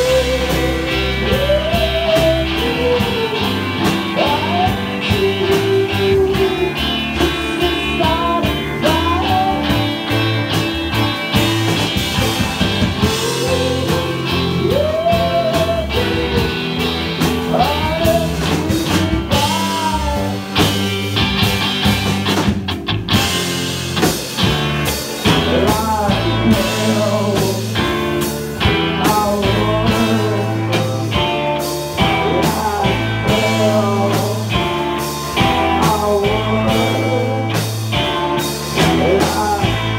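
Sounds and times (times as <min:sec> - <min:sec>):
electric guitar bending lead line: 0:00.0 - 0:39.9
rock band playing: 0:00.0 - 0:39.9.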